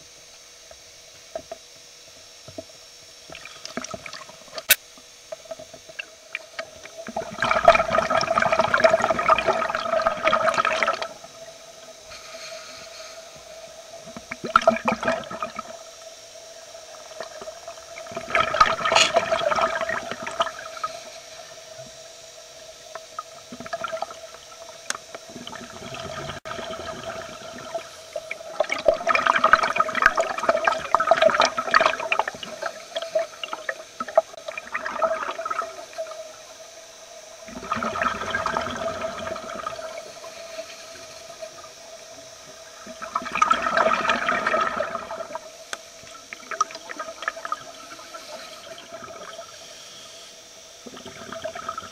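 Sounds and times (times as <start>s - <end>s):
faint steady hum: 0.0s - 51.9s
scuba regulator bubbles underwater: 2.5s - 51.9s.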